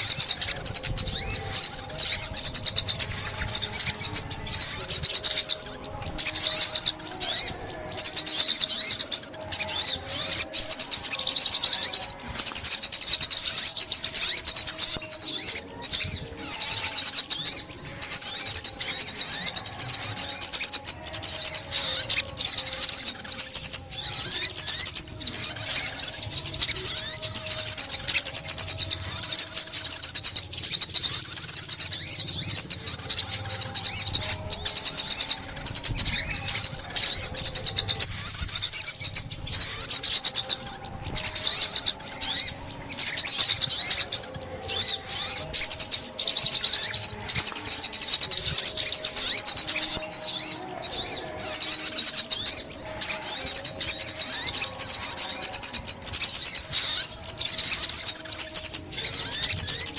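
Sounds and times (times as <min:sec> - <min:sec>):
bird twittering and chirping: 0:00.0 - 0:59.9.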